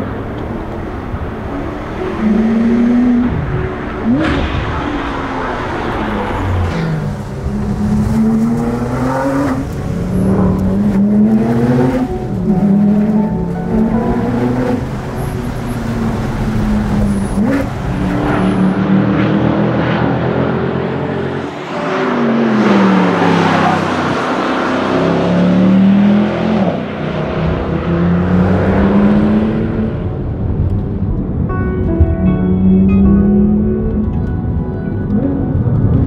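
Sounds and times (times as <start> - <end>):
sports car engines revving: 0.0 - 31.0.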